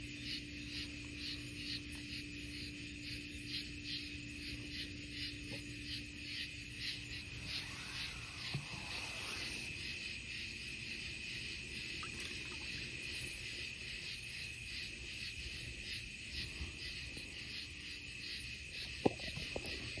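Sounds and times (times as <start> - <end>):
tree frogs trilling: 0.0 - 20.0.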